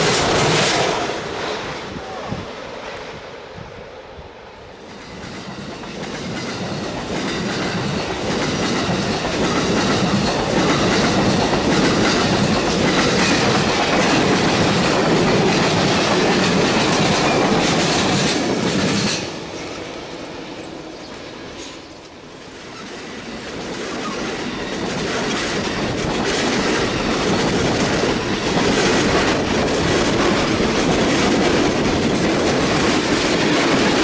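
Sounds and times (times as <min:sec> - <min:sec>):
passenger train passing: 0:00.0 - 0:34.0.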